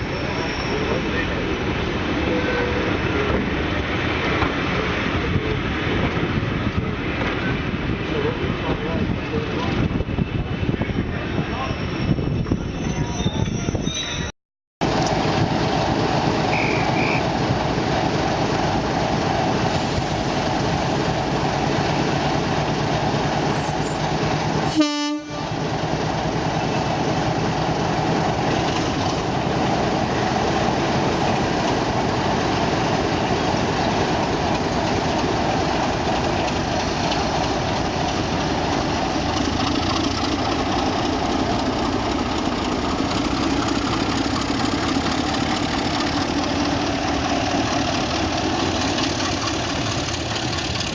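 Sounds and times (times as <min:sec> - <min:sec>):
diesel locomotive engine running: 0:00.0 - 0:13.8, 0:14.8 - 0:50.9.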